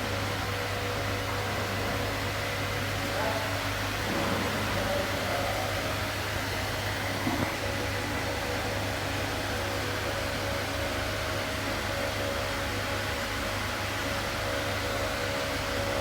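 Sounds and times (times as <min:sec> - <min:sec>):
mechanical hum of fan or motor: 0:00.0 - 0:16.0.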